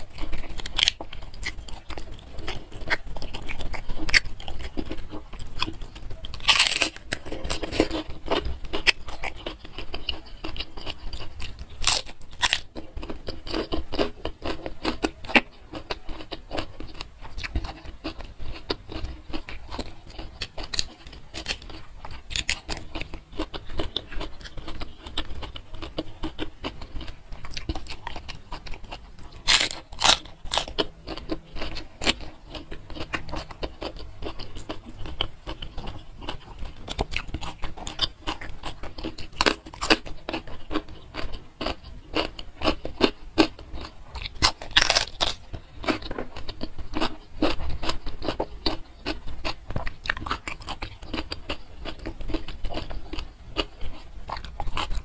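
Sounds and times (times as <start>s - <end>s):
person chewing with wet smacks: 0.0s - 55.0s.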